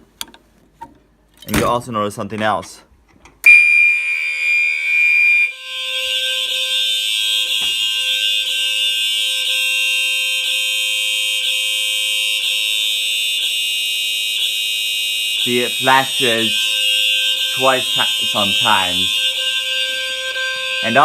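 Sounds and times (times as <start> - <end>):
fire alarm horn: 3.4 - 21.0.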